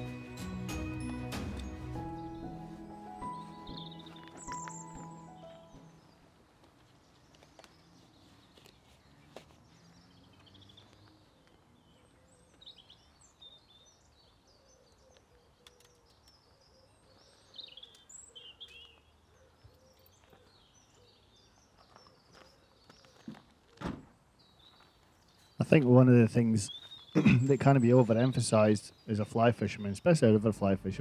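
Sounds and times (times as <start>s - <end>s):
small birds chirping: 1.1s - 31.0s.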